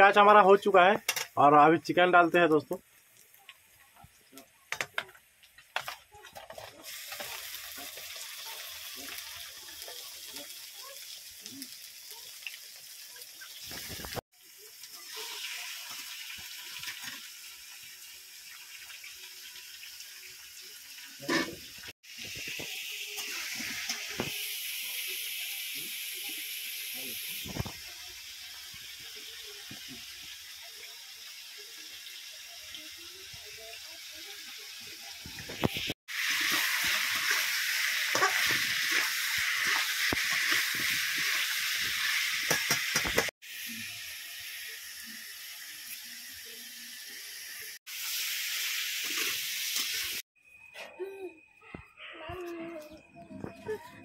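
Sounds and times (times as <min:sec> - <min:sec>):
chicken sizzling in hot oil: 0:00.0 - 0:50.4.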